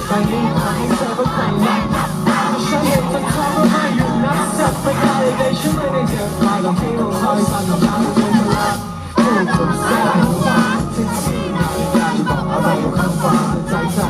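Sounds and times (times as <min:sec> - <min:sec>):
crowd noise: 0:00.0 - 0:14.0
drums beating: 0:00.0 - 0:14.0
pop-rock band playing: 0:00.0 - 0:14.0.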